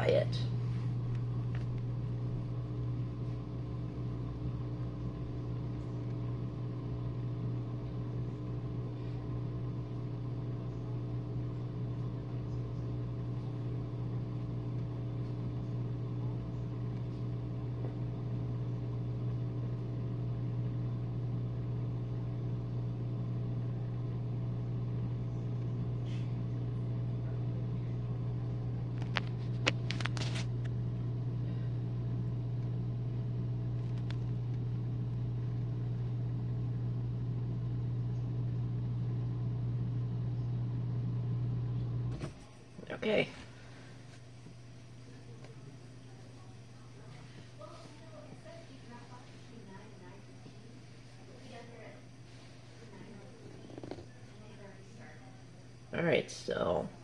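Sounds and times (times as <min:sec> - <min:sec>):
dishwasher pump humming: 0:00.0 - 0:57.0.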